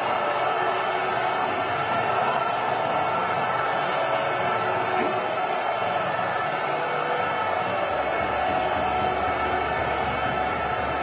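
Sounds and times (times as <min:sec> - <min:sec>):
sustained ambient music: 0:00.0 - 0:11.0.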